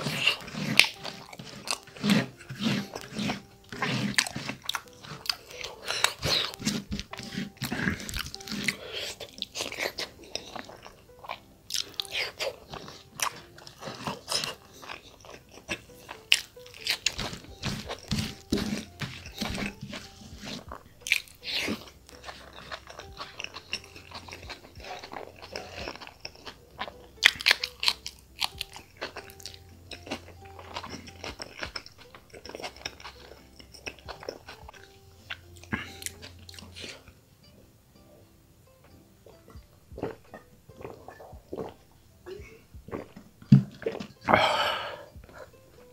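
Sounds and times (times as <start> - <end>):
person chewing crunchy meat: 0.0 - 37.2, 39.2 - 45.9.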